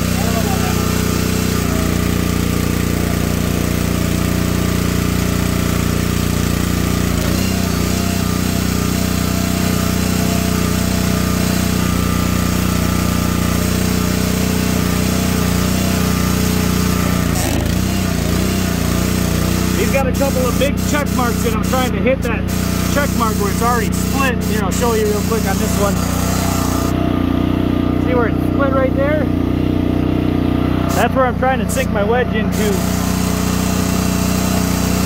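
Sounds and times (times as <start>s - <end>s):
small gasoline engine running: 0.0s - 35.0s.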